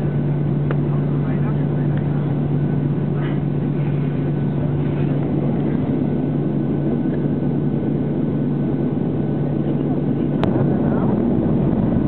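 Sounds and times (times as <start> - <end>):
jet engines heard from cabin: 0.0 - 12.0.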